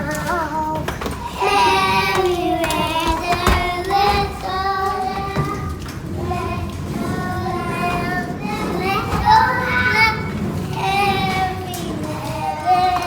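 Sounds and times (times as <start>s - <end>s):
small children singing: 0.0s - 13.0s.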